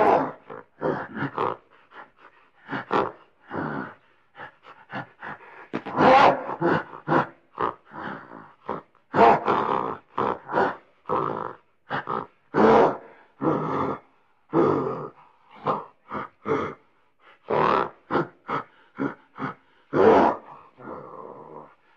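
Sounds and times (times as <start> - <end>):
gorilla grunting: 0.0 - 21.9.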